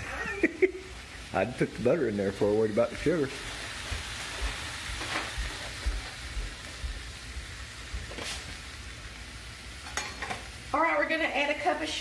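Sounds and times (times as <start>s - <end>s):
pan sizzling on a stove: 0.0s - 12.0s.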